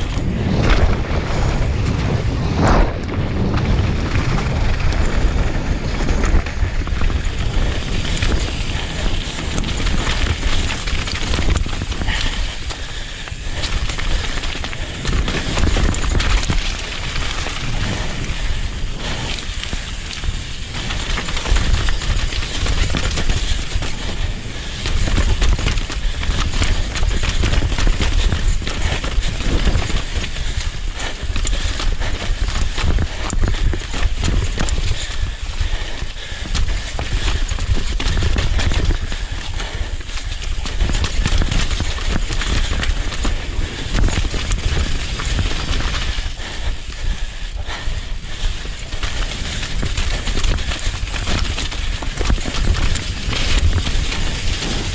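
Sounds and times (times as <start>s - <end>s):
bike rattling over rocks: 0.0s - 54.9s
wind buffeting microphone: 0.0s - 54.9s.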